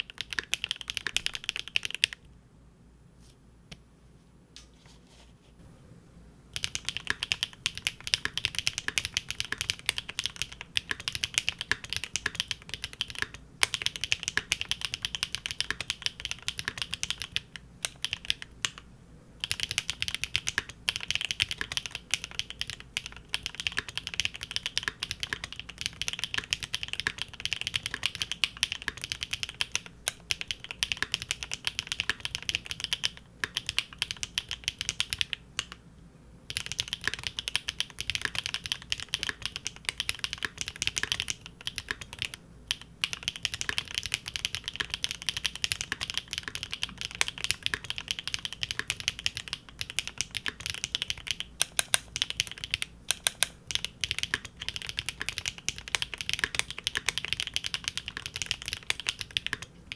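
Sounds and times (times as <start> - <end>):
fast mechanical keyboard typing: 0.0 - 2.2, 6.6 - 18.8, 19.4 - 35.8, 36.5 - 59.9.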